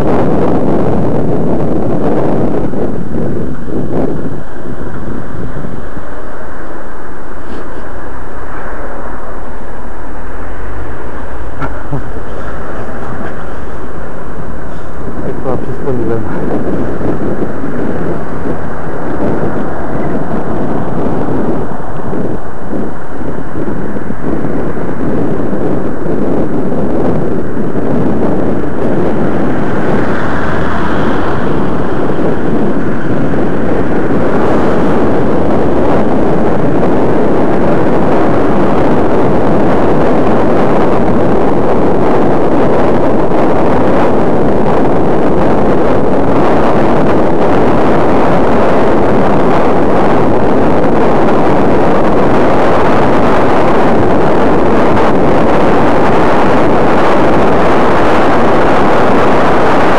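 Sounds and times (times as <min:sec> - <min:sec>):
traffic noise: 0:00.0 - 0:59.9
wind buffeting microphone: 0:00.0 - 0:59.9.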